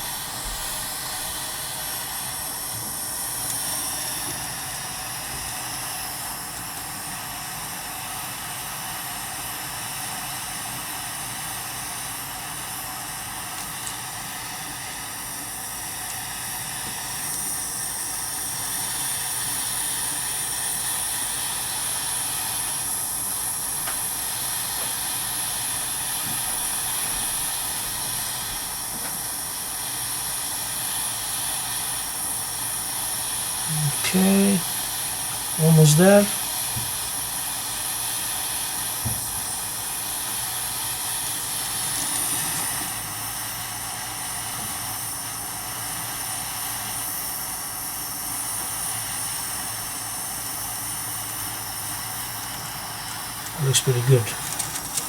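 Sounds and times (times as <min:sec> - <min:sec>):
torch flame hissing: 0:00.0 - 0:55.0.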